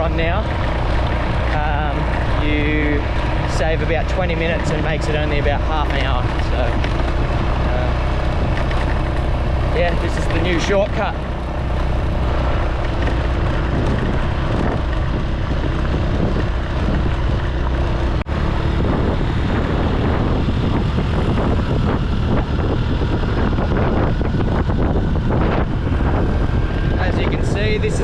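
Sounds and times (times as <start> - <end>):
vehicle engine and road noise: 0.0 - 28.0
wind buffeting microphone: 0.0 - 28.0.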